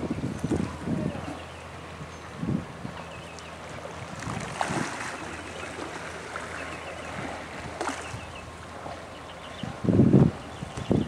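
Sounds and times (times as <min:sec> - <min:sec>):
water lapping: 0:00.0 - 0:10.7
distant paddles splashing: 0:00.0 - 0:10.9.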